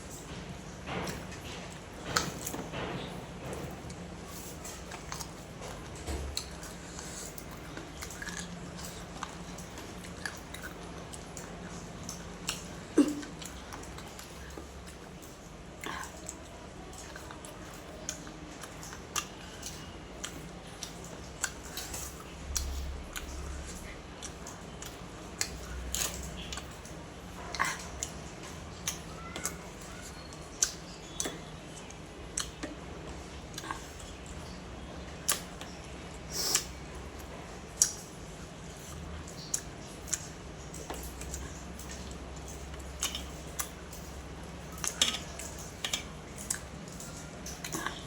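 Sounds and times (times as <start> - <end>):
low steady hum: 0.0 - 48.0
chewing clicks and smacks: 4.6 - 29.6, 30.2 - 34.2, 35.2 - 38.2, 38.8 - 48.0.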